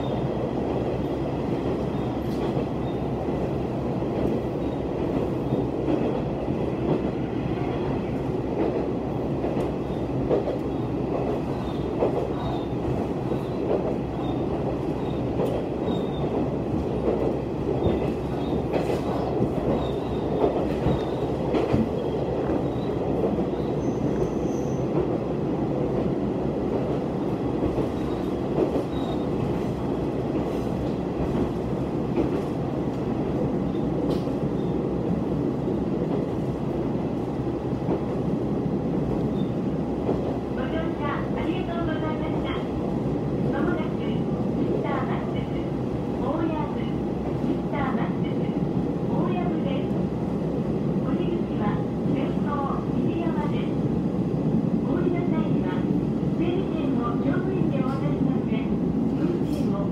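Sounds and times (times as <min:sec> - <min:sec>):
railcar engine and wheels rumbling: 0:00.0 - 0:59.9.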